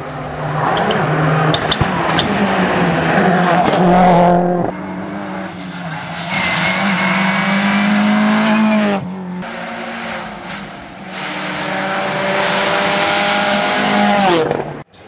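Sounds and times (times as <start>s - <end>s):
rally car engine approaching: 0.0s - 14.8s
rally car engine passing: 0.0s - 14.8s.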